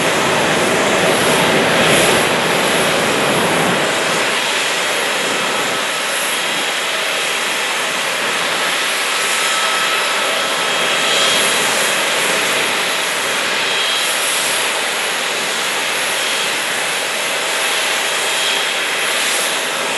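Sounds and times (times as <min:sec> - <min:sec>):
jet engines at low thrust: 0:00.0 - 0:19.9.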